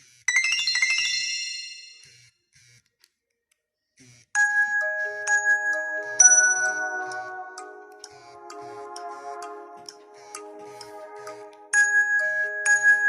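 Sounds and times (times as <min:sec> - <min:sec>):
synthesized ringtone melody: 0:00.3 - 0:02.1, 0:04.4 - 0:13.0
bell-like chime ringtone: 0:00.3 - 0:02.2, 0:04.4 - 0:13.0.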